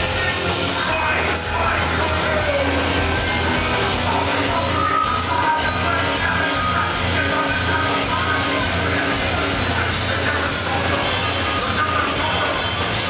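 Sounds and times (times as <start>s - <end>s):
loud rock band playing: 0.0s - 13.0s.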